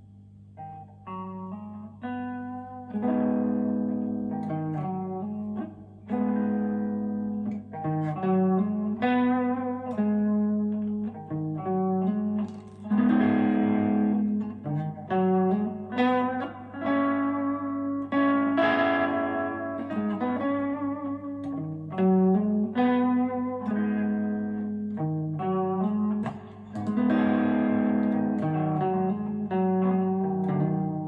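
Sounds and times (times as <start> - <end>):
electric guitar notes and chords: 0.0 - 31.0.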